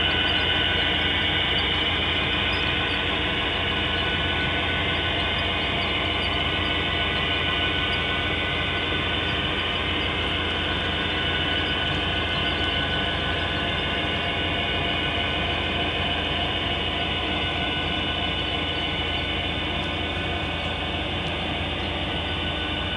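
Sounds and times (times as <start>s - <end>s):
model train wheels whirring on rails: 0.0s - 22.9s.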